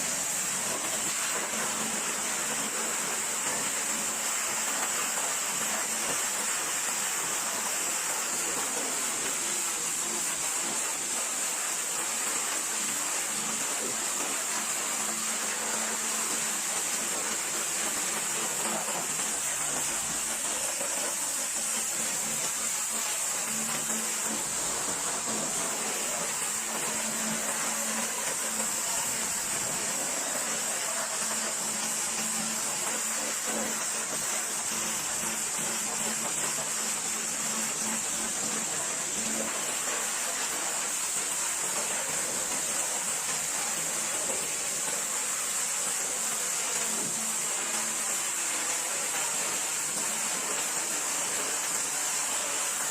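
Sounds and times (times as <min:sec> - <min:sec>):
pressure washer spraying water: 0:00.0 - 0:52.9.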